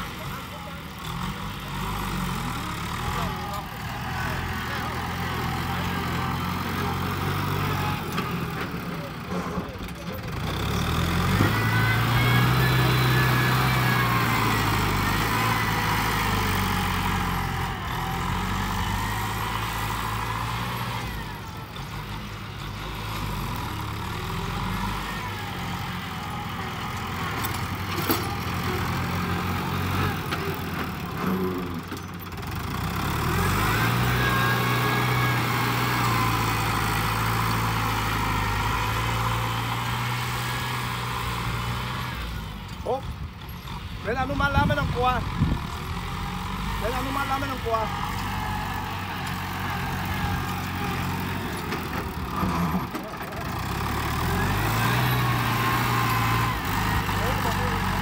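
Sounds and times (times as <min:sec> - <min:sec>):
tractor diesel engine working: 0:00.0 - 0:58.0.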